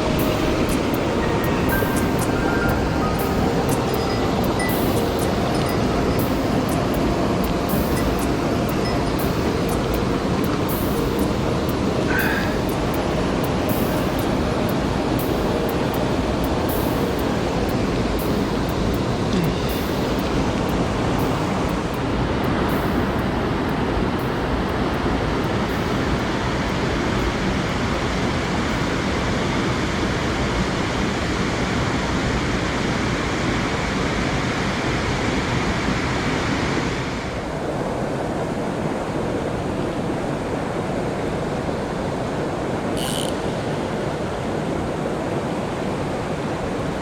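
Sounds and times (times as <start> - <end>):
stream water rushing over rocks: 0.0 - 47.0.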